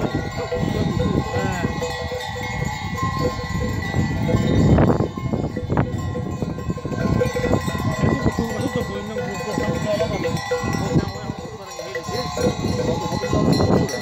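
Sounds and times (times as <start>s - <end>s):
sheep bells clinking: 0.0s - 14.0s.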